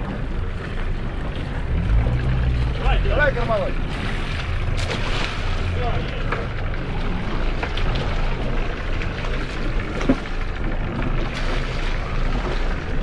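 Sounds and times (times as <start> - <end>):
low rumble: 0.0 - 13.0
wind: 0.0 - 13.0.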